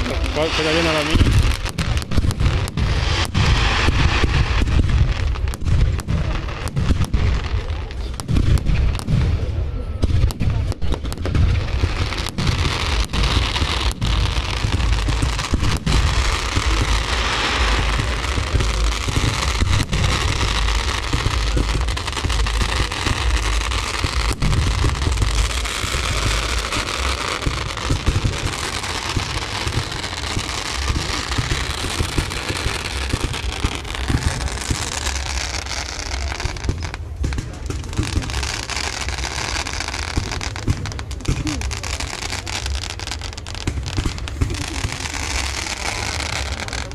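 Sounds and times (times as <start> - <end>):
crackling hiss of sparks: 0.0 - 46.9
fireworks bangs: 0.0 - 46.9.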